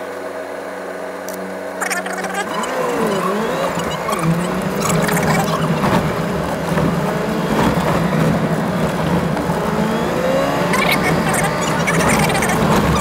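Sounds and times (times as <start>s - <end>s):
vehicle engine: 0.0s - 13.0s.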